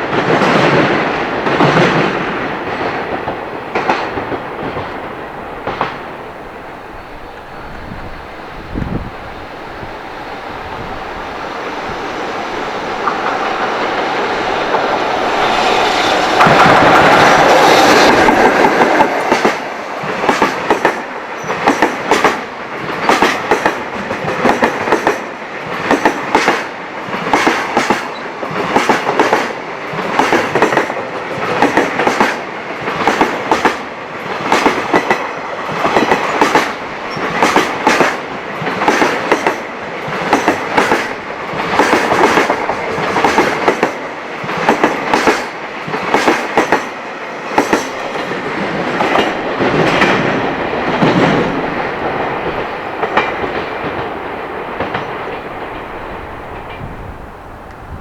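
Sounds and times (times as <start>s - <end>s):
rush of passing train: 0.0s - 58.0s.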